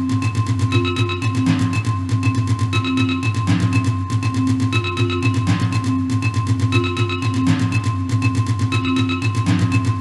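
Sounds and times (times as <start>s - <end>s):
pitched percussion drumming: 0.0s - 10.0s.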